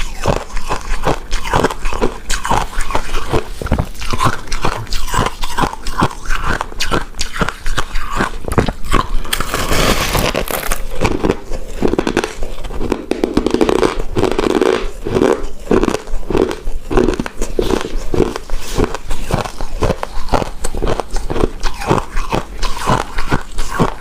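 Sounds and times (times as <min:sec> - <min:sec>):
close chewing with mouth clicks: 0:00.0 - 0:24.0.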